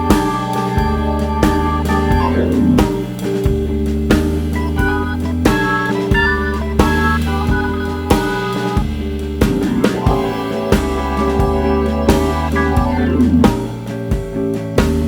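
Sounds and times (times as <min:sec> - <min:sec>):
upbeat band music: 0:00.0 - 0:15.0.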